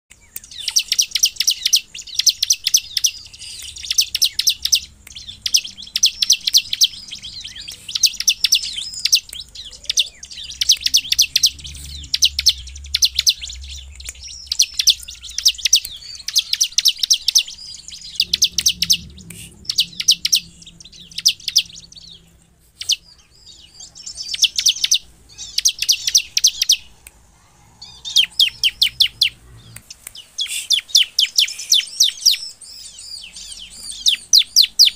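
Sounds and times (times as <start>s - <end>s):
bird calling in rapid bursts: 0.5s - 22.2s, 22.8s - 27.0s, 27.8s - 34.9s.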